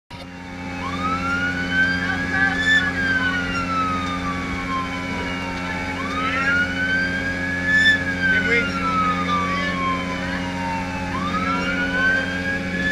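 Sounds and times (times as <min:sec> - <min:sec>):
boat engine hum: 0:00.1 - 0:12.9
emergency siren wailing: 0:00.1 - 0:12.9.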